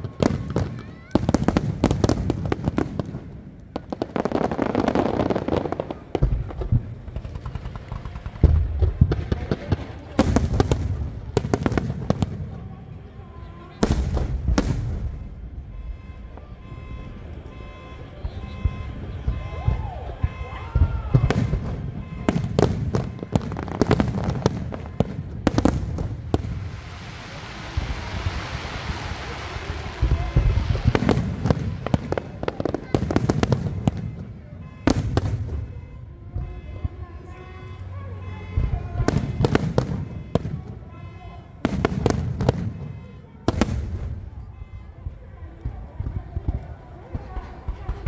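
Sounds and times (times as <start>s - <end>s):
deep firework booms: 0.0s - 13.1s, 13.8s - 48.0s
fireworks crackling: 0.0s - 48.0s.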